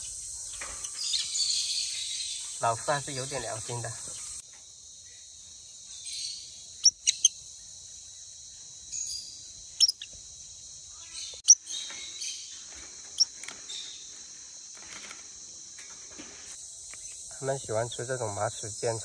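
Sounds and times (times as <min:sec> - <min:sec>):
birds chirping high: 0:00.0 - 0:04.4, 0:05.0 - 0:17.3.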